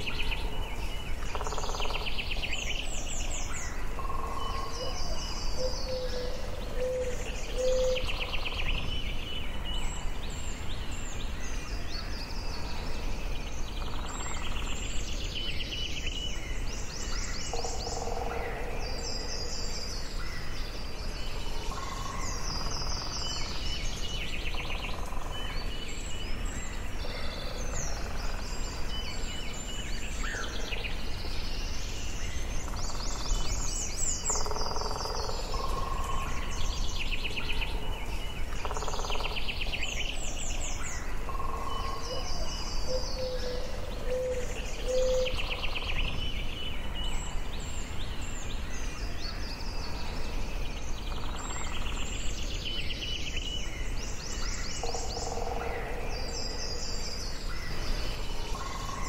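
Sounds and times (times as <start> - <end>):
birds trilling and chirping: 0.0 - 59.0.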